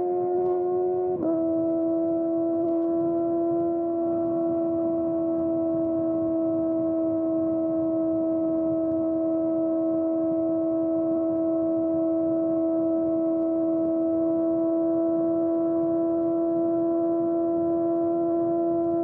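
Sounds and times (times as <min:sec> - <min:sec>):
motorcycle engine high-revving drone: 0:00.0 - 0:19.0.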